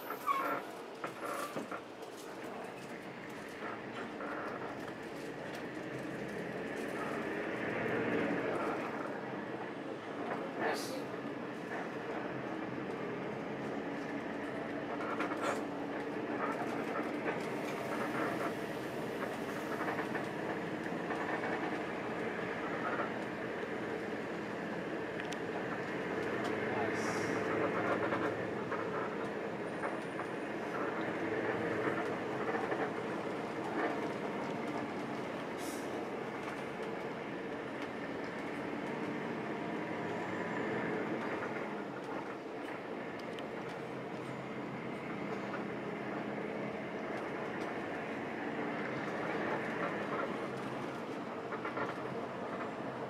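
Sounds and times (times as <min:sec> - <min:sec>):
coach engine and road noise: 0:00.0 - 0:53.0.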